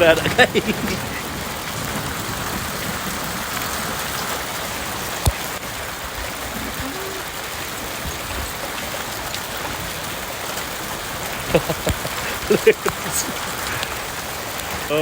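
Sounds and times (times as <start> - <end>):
hail pattering on ground: 0.0 - 15.0.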